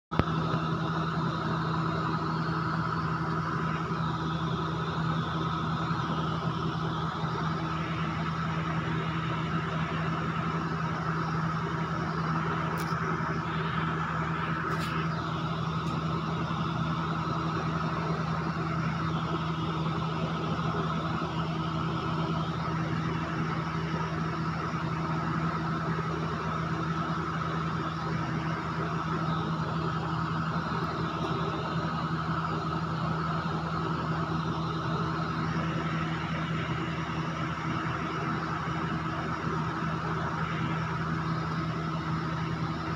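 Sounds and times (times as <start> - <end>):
low hum: 0.1 - 42.9.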